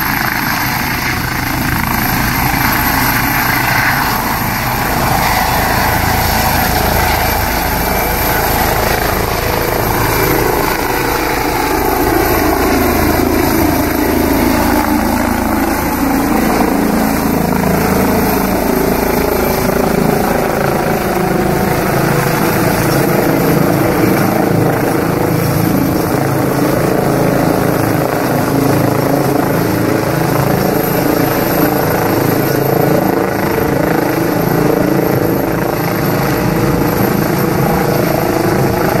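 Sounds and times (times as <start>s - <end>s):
helicopter turbine and rotor: 0.0s - 39.0s.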